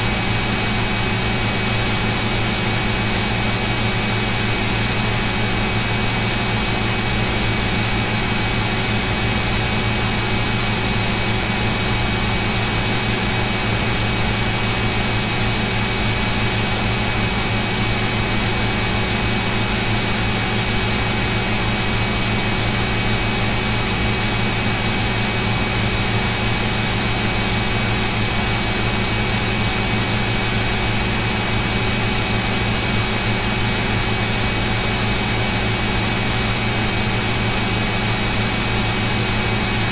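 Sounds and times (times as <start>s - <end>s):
steady mechanical hum with hiss: 0.0s - 39.9s.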